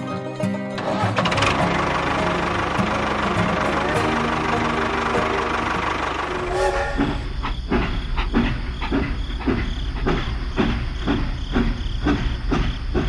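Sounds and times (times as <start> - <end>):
rhythmic machine clacking: 0.8 - 13.0.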